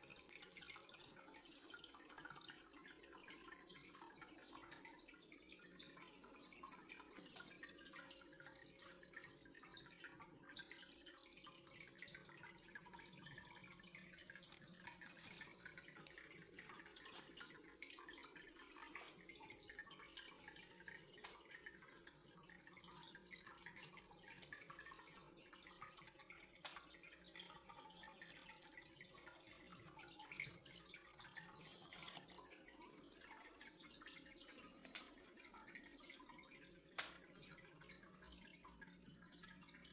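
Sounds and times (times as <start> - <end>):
trickling water with drips: 0.0 - 39.9.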